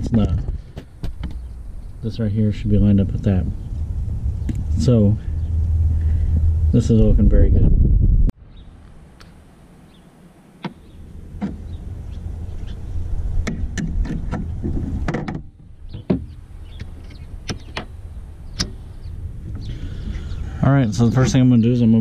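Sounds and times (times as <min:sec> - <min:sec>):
low rumble: 0:00.0 - 0:08.8, 0:10.9 - 0:22.0.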